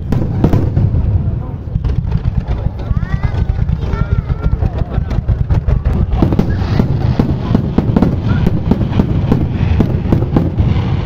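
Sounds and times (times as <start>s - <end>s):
deep rumble: 0.0s - 11.0s
fireworks bangs and crackles: 0.0s - 11.0s.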